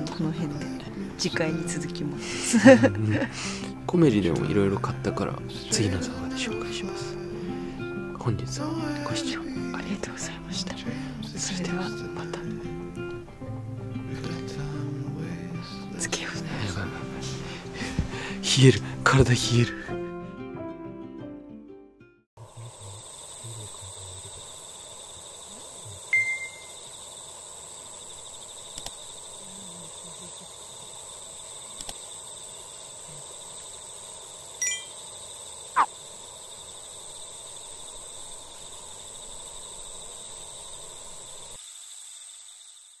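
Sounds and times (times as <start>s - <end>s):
high-pitched insect chorus: 0.0s - 13.4s, 14.1s - 19.7s, 22.4s - 43.0s.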